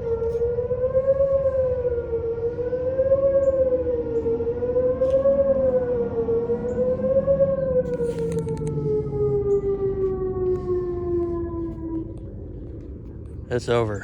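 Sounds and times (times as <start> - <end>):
faint lower siren tone: 0.0 - 14.0
warning siren wavering wail: 0.0 - 14.0.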